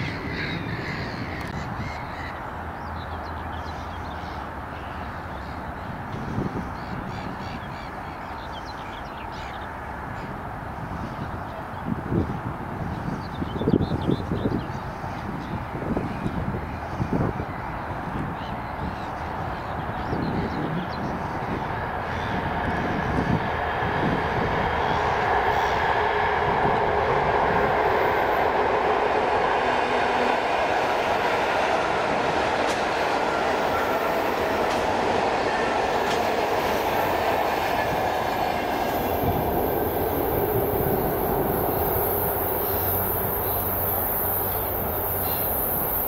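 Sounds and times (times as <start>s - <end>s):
electric train running on track: 0.0s - 46.0s.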